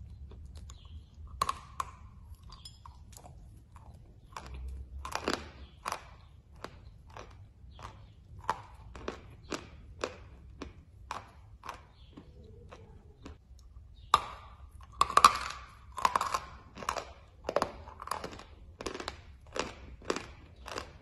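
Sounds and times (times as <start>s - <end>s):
crunchy chewing of chalk: 0.0s - 21.0s.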